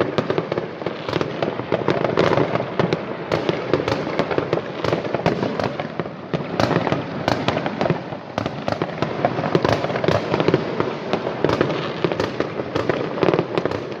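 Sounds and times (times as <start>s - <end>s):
fireworks bangs and crackling: 0.0s - 14.0s.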